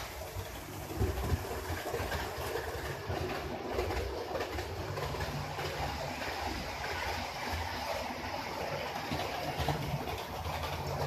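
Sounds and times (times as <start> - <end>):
model train motor hum: 0.0 - 11.0
wheels clicking over rail joints: 0.0 - 11.0.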